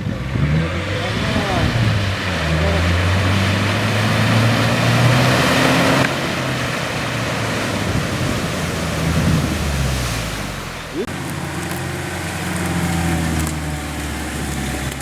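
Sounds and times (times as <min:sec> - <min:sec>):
engine running under load: 0:00.0 - 0:15.0.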